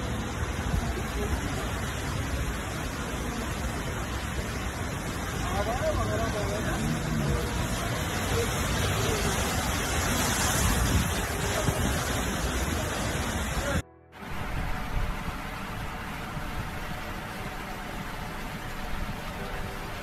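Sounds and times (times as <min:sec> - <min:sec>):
floodwater rushing through street: 0:00.0 - 0:20.0.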